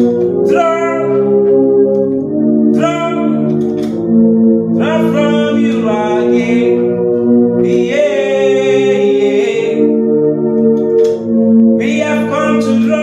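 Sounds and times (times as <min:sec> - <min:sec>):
sustained keyboard pad chord: 0:00.0 - 0:13.0.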